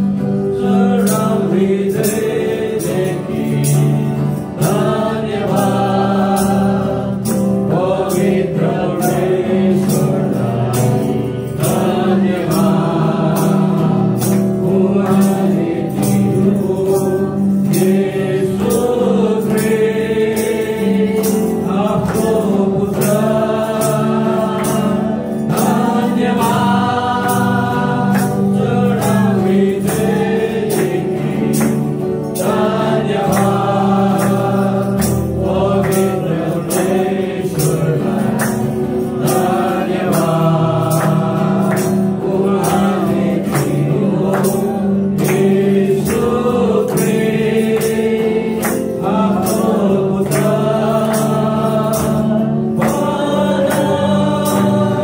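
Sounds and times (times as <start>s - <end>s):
choir singing gospel music: 0.0s - 55.0s
instrumental accompaniment with beat: 0.0s - 55.0s.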